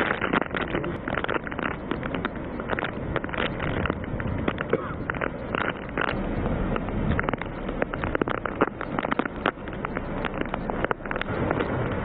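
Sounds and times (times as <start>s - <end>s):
heavy rain: 0.0s - 12.0s
sharp crackles and clicks: 0.0s - 12.0s.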